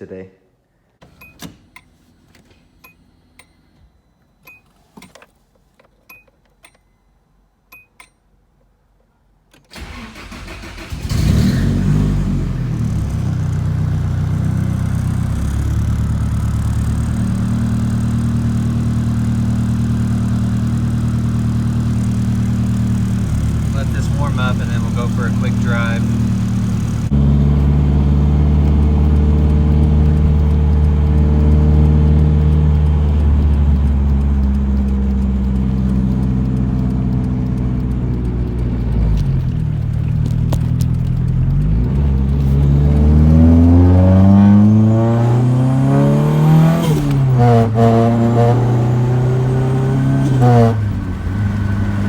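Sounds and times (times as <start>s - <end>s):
car engine and exhaust revving: 9.7s - 52.0s.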